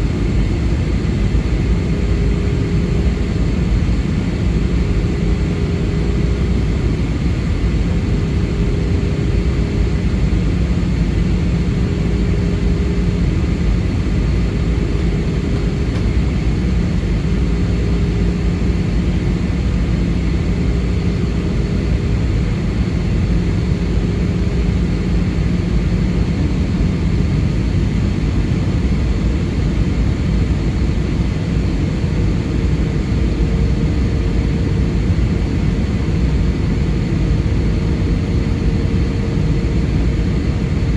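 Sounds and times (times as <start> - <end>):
jet engine and airflow drone: 0.0 - 40.9.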